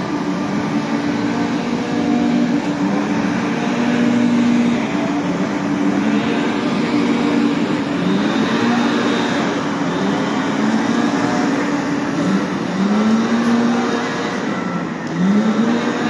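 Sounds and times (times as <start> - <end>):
brushes sweeping cobblestones: 0.0 - 16.0
street sweeper engine drone: 0.0 - 16.0.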